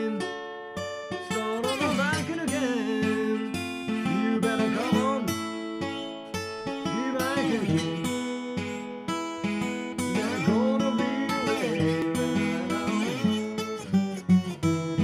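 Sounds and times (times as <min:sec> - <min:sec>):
slide acoustic guitar: 0:00.0 - 0:15.0.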